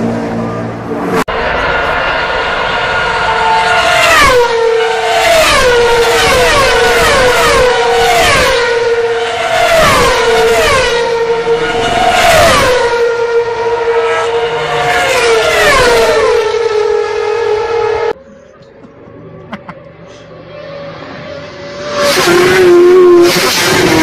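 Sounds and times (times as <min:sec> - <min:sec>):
race cars passing at full speed: 0:00.0 - 0:24.0.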